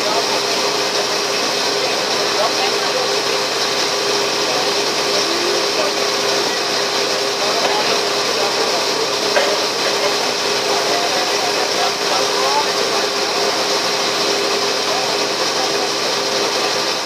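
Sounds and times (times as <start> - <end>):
ferry engine drone: 0.0 - 17.0
rushing water: 0.0 - 17.0.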